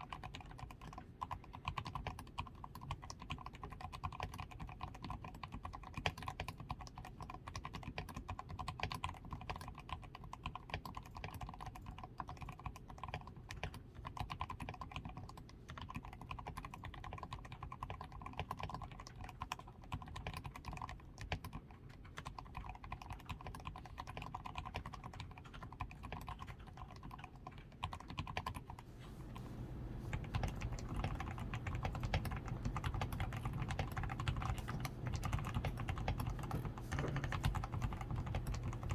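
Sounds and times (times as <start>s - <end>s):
mechanical keyboard typing: 0.0s - 28.8s, 29.6s - 38.9s.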